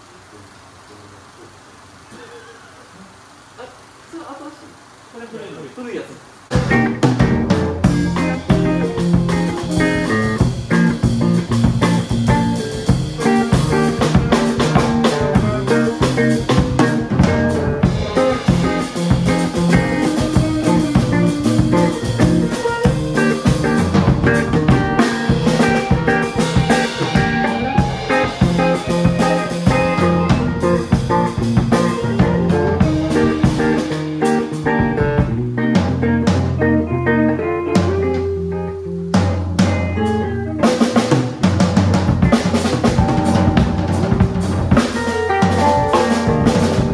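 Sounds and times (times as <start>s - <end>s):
band playing: 6.5s - 46.9s
drum kit beat: 6.5s - 46.9s
guitar: 6.5s - 46.9s.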